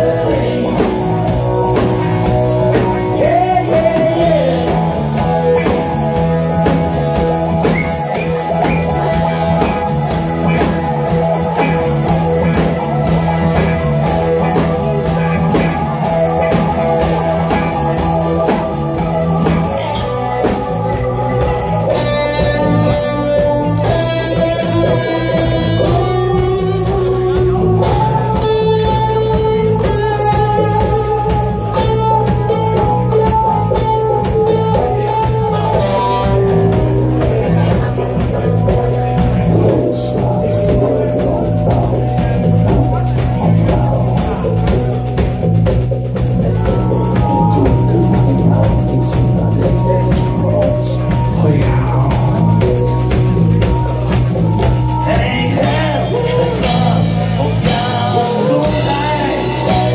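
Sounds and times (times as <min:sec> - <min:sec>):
lead melody of long held notes: 0:00.0 - 0:59.9
man singing: 0:00.0 - 0:59.9
rock band playing live: 0:00.0 - 0:59.9.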